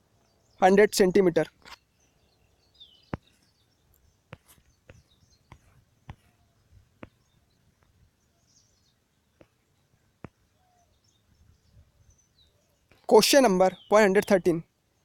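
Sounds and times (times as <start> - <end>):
distant bird chirps: 0.0 - 15.0.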